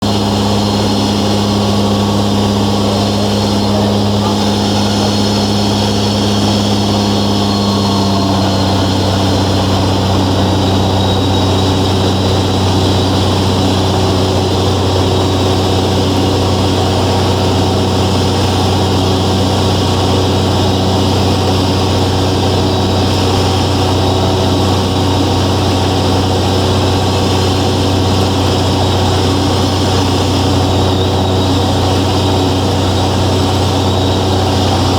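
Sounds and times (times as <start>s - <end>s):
propeller aircraft engine drone: 0.0s - 34.9s.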